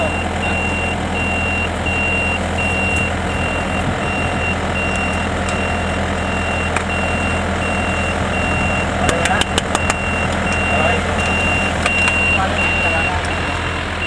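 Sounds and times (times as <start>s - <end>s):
combine harvester engine running: 0.0s - 14.0s
high electronic warning beep: 0.0s - 14.0s.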